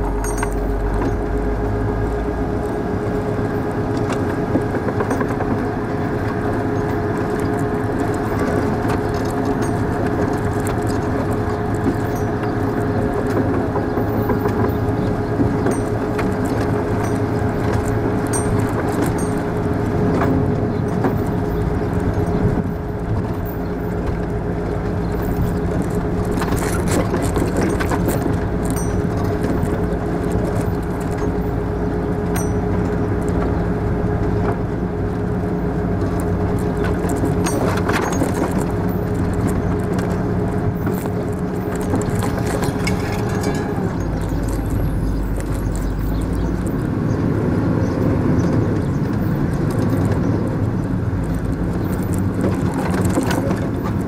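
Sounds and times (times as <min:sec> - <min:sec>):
drivetrain whine: 0:00.0 - 0:54.0
military vehicle engine driving: 0:00.0 - 0:54.0
rattles and clicks: 0:00.0 - 0:54.0.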